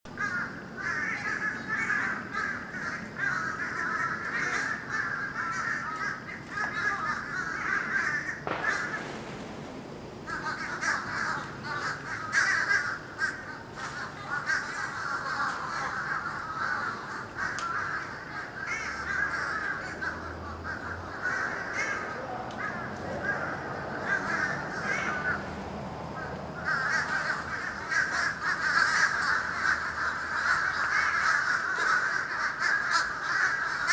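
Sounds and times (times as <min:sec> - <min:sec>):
flock of birds calling: 0:00.1 - 0:33.9.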